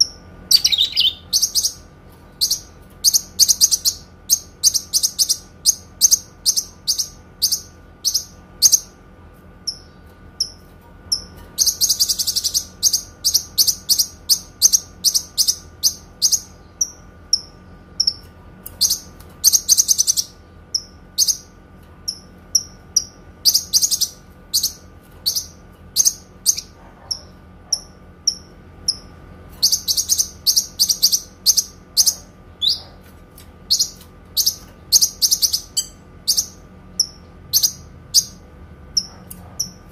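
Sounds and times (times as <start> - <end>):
bird chirping: 0.0 - 9.0, 9.6 - 39.9.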